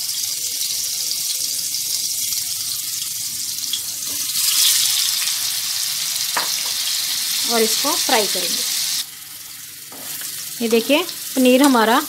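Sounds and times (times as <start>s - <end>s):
paneer sizzling in hot oil: 0.0s - 12.0s.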